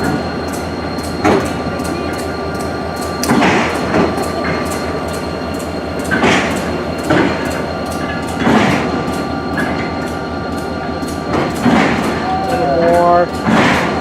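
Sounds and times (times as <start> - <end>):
regular clicking of train wheels: 0.0 - 14.0
train rumbling slowly: 0.0 - 14.0.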